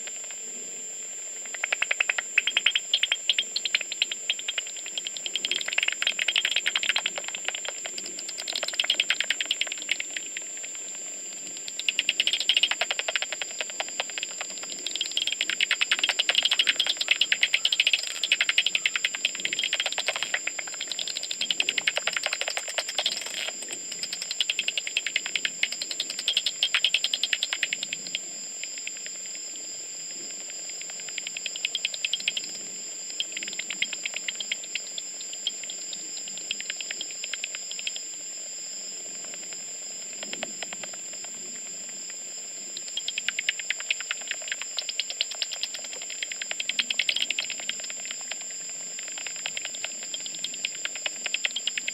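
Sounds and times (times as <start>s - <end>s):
bat echolocation clicks: 1.4s - 29.4s, 30.2s - 38.1s, 39.1s - 51.9s.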